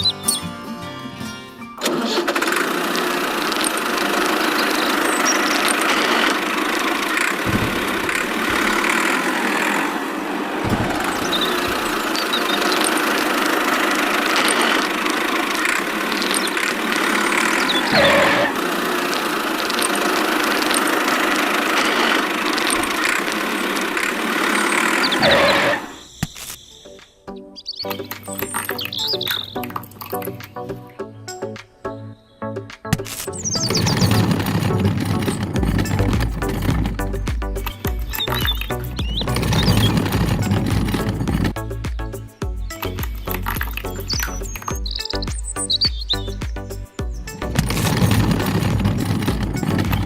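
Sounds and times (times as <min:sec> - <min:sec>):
engine running: 0:01.8 - 0:26.0, 0:33.1 - 0:41.8, 0:42.7 - 0:50.0.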